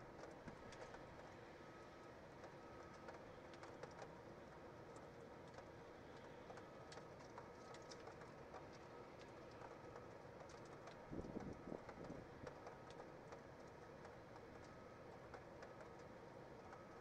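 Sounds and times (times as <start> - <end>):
raindrops ticking on camera housing: 0.2 - 1.5, 2.4 - 17.0.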